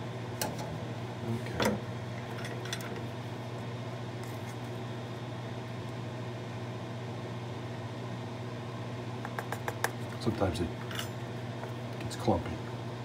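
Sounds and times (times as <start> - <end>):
exhaust fan humming: 0.0 - 13.0.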